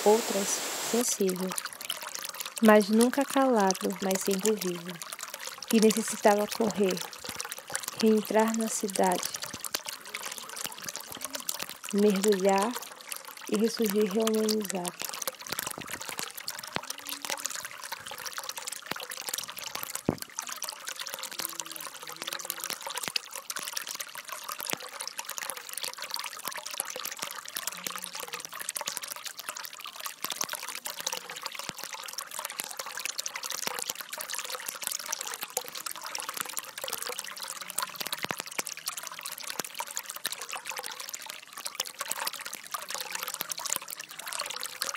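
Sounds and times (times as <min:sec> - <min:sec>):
stream trickling over rocks: 0:00.0 - 0:44.9.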